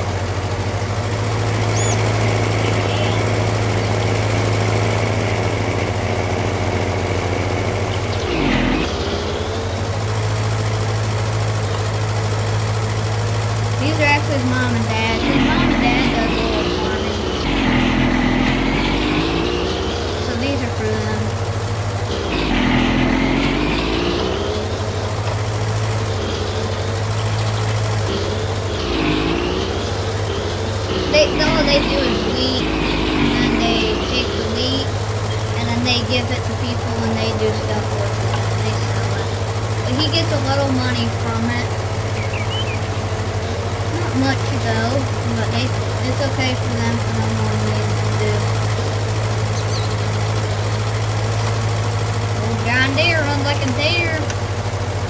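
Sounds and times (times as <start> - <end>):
garden tractor engine mowing: 0.0 - 55.0.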